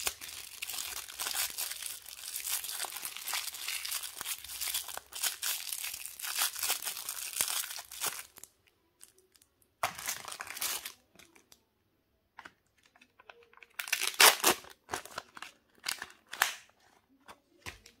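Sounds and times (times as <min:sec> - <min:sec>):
plastic wrapper crinkling and tearing: 0:00.0 - 0:11.6, 0:12.9 - 0:16.7.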